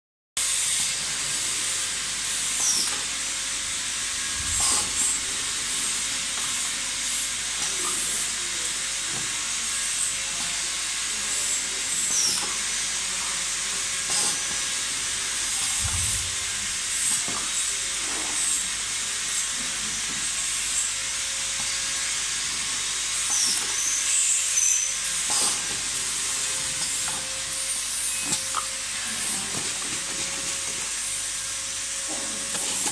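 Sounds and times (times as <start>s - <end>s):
machine hiss: 0.4s - 32.9s.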